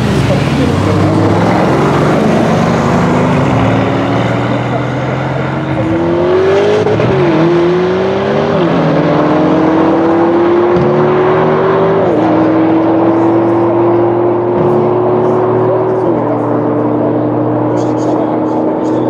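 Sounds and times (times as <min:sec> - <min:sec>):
car engine at full throttle: 0:00.0 - 0:19.0
second car accelerating: 0:00.0 - 0:19.0.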